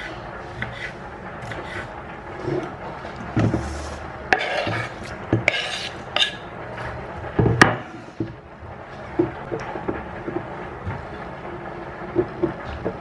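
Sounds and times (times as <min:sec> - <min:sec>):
objects scraping and rubbing: 0:00.0 - 0:11.1.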